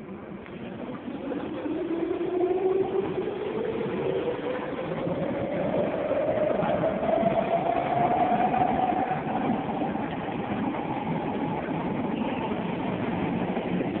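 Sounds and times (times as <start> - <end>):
electric train drive whine: 0.0 - 14.0
train wheels rumbling on rails: 0.0 - 14.0.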